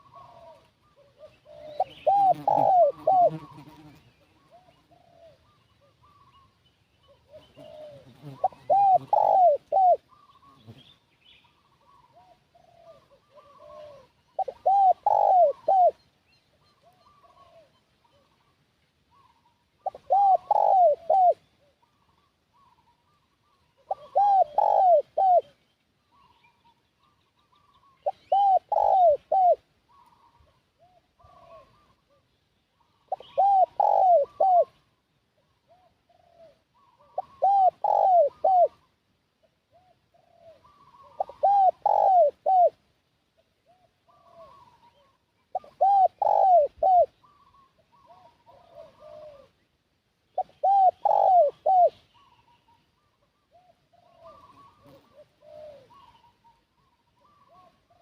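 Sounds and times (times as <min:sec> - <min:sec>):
dove cooing: 0:00.0 - 0:11.0, 0:11.6 - 0:16.0, 0:16.6 - 0:18.5, 0:19.1 - 0:38.9, 0:39.7 - 0:42.8, 0:43.6 - 0:49.6, 0:50.3 - 0:58.0.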